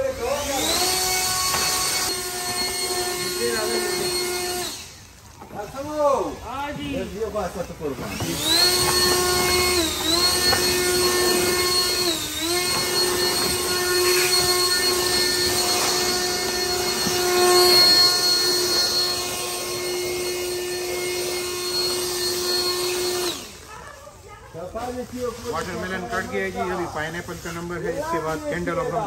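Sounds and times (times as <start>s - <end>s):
small electric motor whining: 0.0s - 29.0s.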